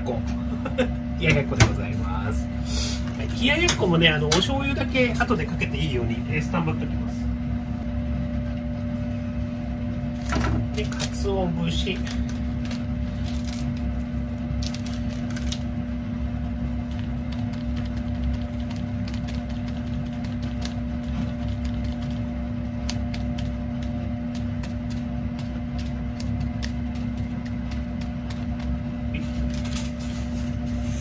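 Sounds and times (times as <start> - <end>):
appliance electrical hum: 0.0 - 31.0.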